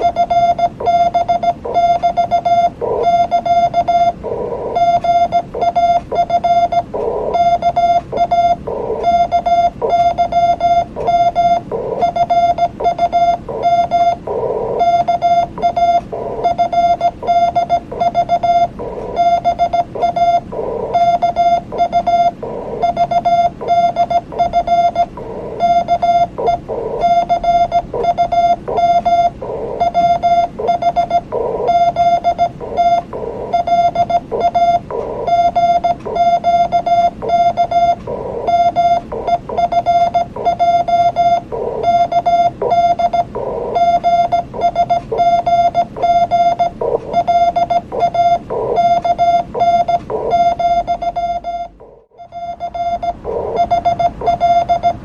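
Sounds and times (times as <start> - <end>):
morse code tone: 0.0 - 55.0
noisy radio pulses: 0.0 - 55.0.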